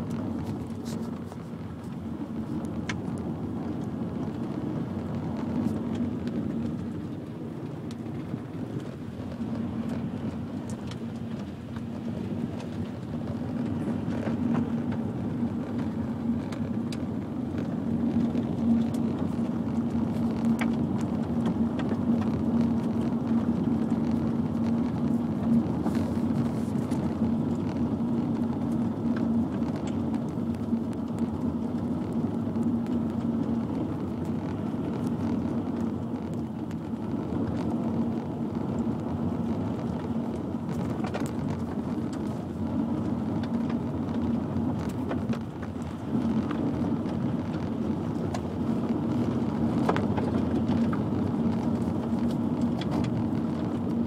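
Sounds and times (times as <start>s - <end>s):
engine and road noise: 0.0s - 54.0s.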